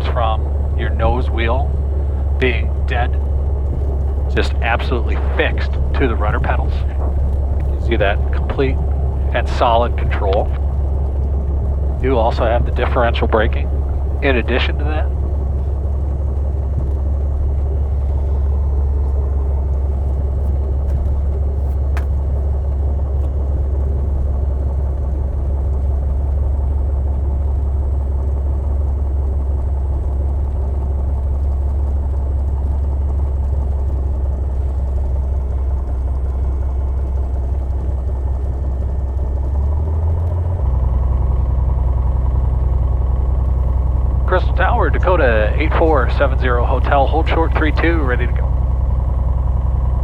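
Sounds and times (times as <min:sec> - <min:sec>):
aircraft engine running: 0:00.0 - 0:50.0.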